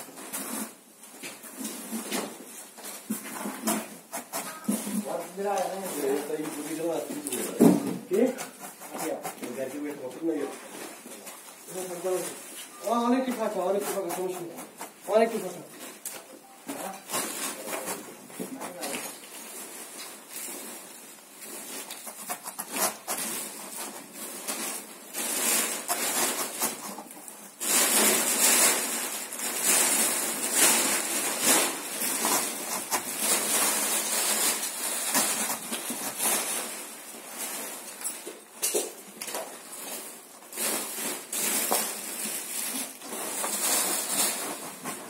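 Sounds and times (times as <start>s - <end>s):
rustling and crinkling: 0.0s - 45.0s.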